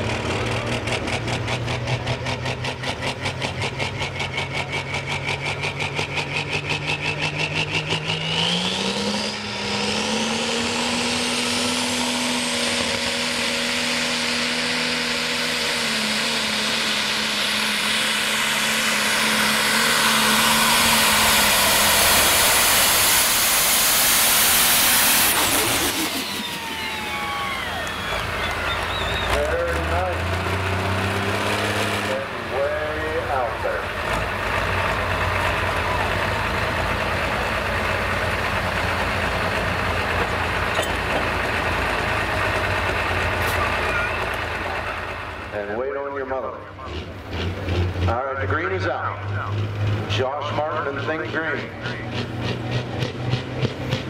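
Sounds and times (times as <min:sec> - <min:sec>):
tractor engine roaring: 0:00.0 - 0:54.0.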